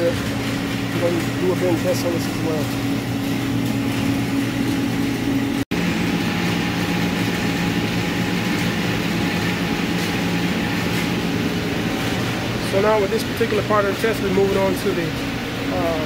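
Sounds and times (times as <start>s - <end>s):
machinery hum with hiss: 0.0s - 16.0s.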